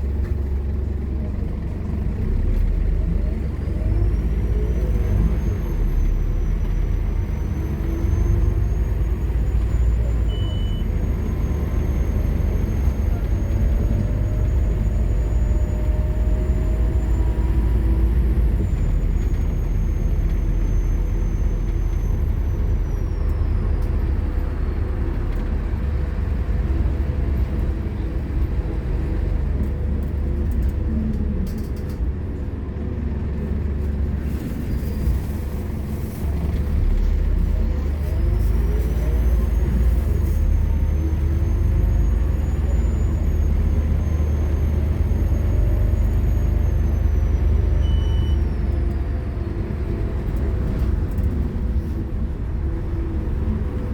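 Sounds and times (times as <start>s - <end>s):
bus diesel engine running hard: 0.0s - 53.9s.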